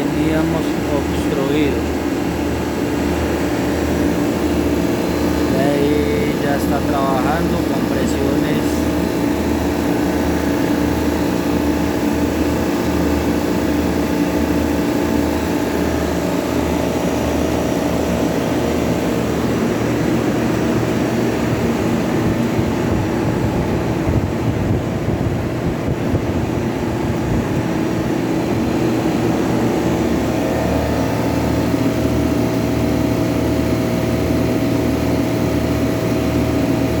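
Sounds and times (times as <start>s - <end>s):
refrigeration machinery hum: 0.0s - 37.0s
steady machine tones: 0.0s - 37.0s.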